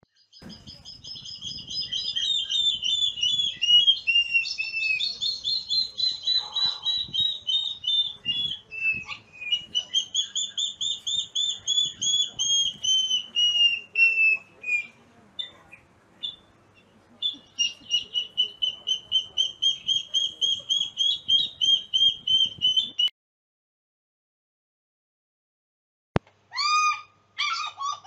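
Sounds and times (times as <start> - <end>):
birds piping whistled calls: 0.2 - 23.1.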